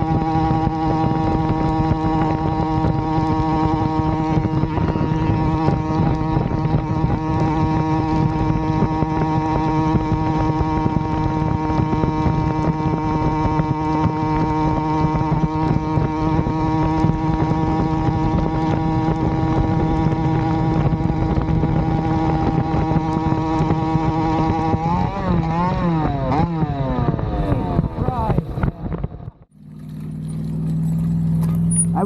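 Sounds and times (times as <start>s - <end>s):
two-stroke engine running: 0.0s - 32.0s.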